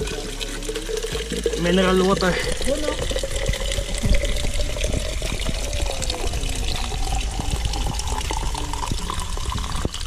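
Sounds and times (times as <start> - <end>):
water pouring into a bottle: 0.0 - 10.0.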